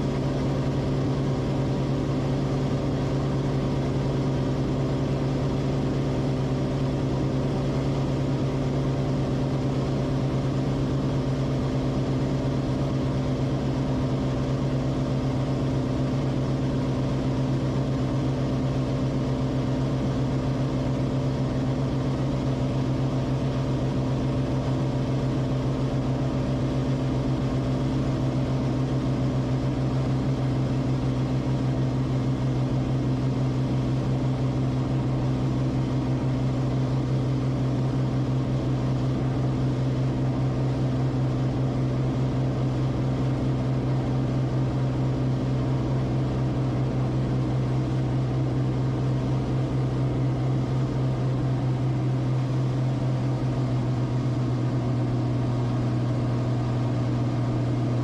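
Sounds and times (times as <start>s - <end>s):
aircraft engine droning in cabin: 0.0s - 58.0s.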